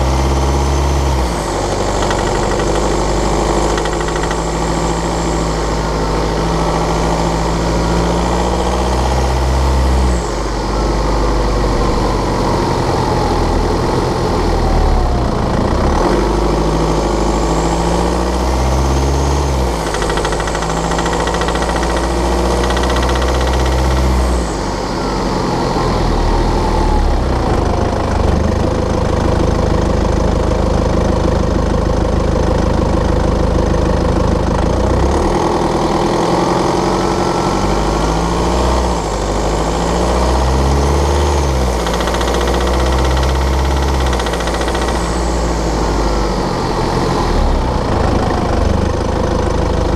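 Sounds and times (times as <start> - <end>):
diesel engine running: 0.0 - 49.9
engine rattling and ticking: 0.0 - 49.9.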